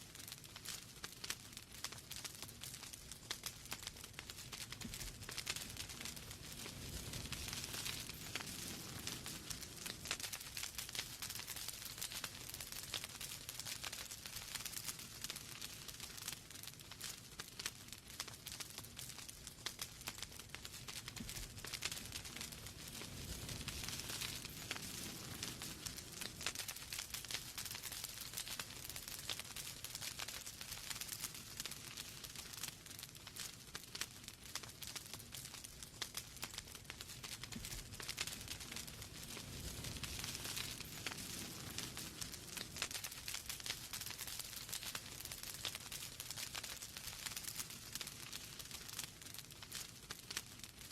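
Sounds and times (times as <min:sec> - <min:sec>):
logs crackling and popping: 0:00.0 - 0:50.9
low rumble of flame: 0:00.0 - 0:50.9.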